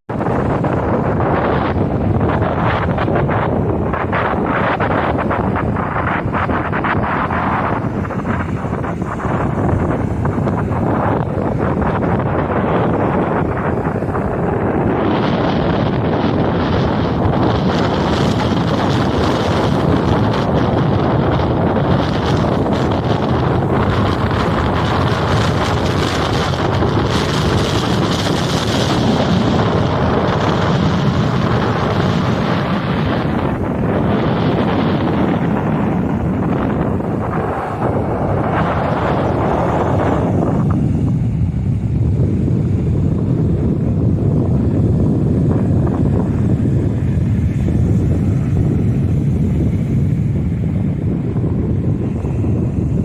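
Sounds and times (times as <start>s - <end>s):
wind buffeting microphone: 0.0s - 53.0s
sea surf breaking: 0.1s - 53.0s.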